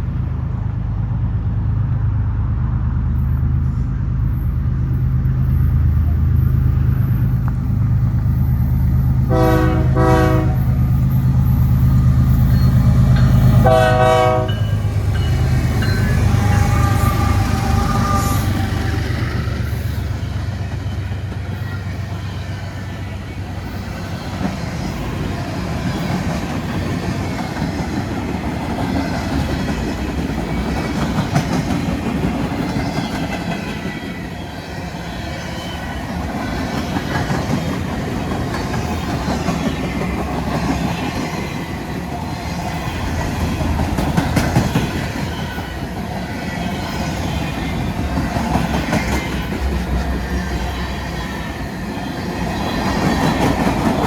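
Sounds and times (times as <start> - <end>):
train wheels clattering on rails: 5.2 - 54.0.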